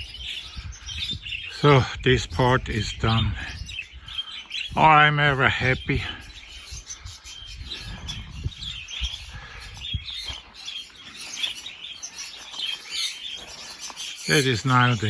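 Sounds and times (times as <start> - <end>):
budgerigars chattering: 0.0 - 15.0.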